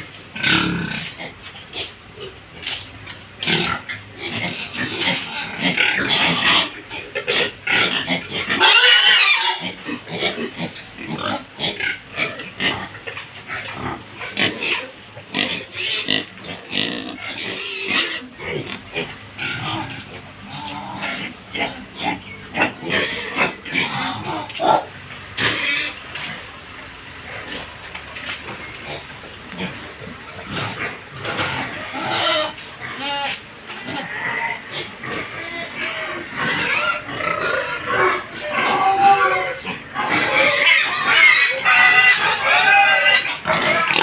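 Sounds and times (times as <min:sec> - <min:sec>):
pigs grunting: 0:00.0 - 0:44.0.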